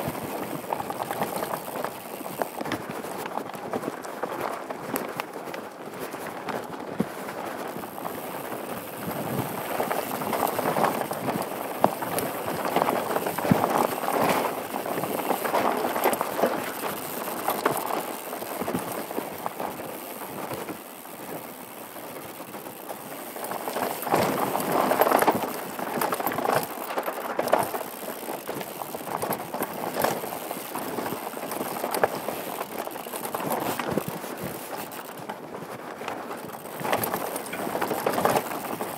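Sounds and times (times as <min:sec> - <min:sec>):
bike rattling and clattering: 0:00.0 - 0:38.9
bike tyres rolling over dirt and stones: 0:00.0 - 0:38.9.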